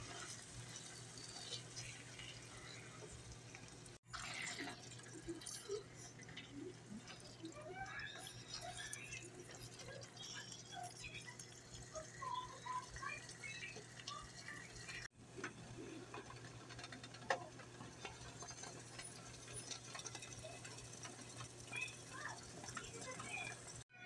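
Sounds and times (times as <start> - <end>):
sauce simmering and popping: 0.0 - 23.8.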